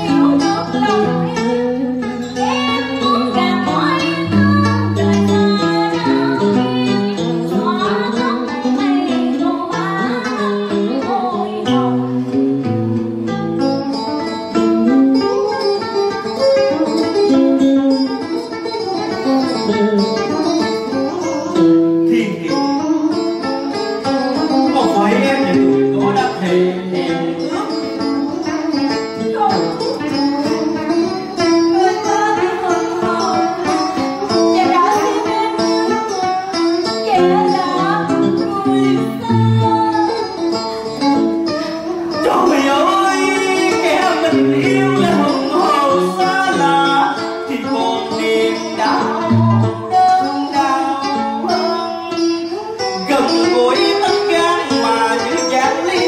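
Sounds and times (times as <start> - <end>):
plucked string instruments melody: 0.0 - 56.0.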